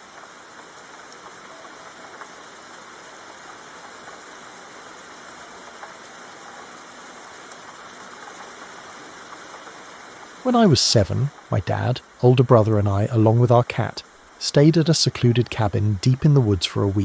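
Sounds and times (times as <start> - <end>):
faint crackles: 0.0 - 17.0
soft hissing noise: 0.0 - 17.0.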